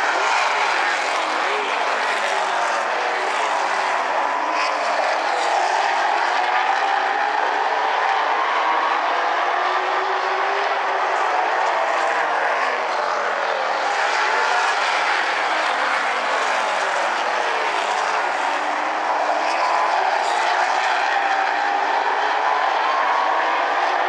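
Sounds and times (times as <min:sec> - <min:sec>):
stock car engines racing: 0:00.0 - 0:24.0.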